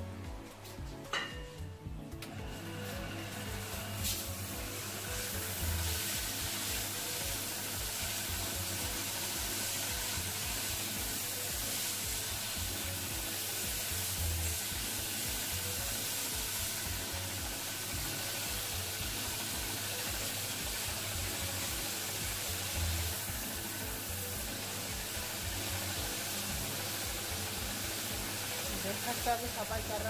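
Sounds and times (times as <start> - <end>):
water jet hissing: 2.6 - 30.0.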